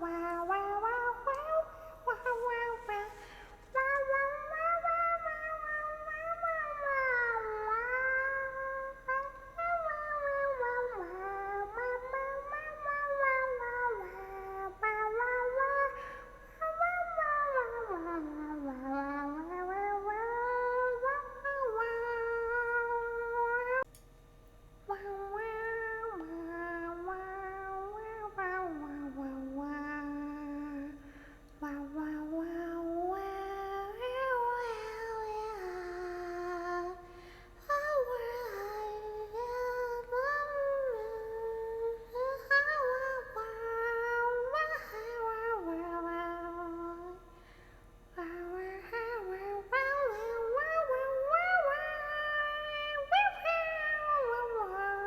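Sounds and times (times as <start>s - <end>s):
woman humming and crooning: 0.0s - 23.9s, 31.6s - 47.2s, 48.2s - 55.0s.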